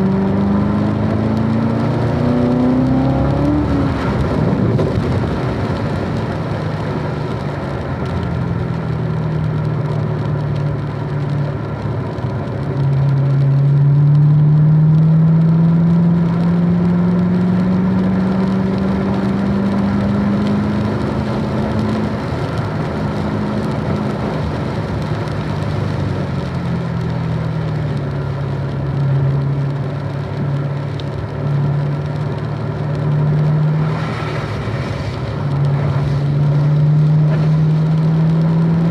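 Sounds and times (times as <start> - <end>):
car engine at speed: 0.0 - 38.9
hiss of tyre spray and rain: 0.5 - 13.9, 17.4 - 38.9.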